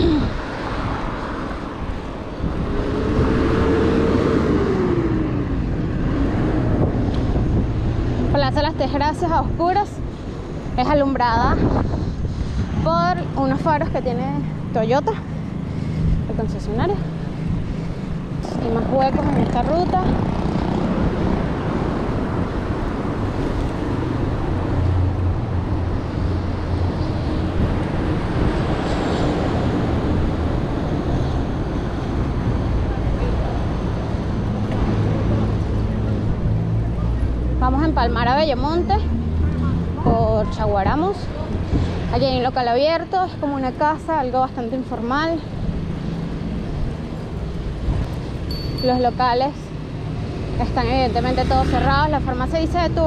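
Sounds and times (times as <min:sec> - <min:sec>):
road and wind noise: 0:00.0 - 0:53.0
vehicle passing: 0:00.0 - 0:53.0.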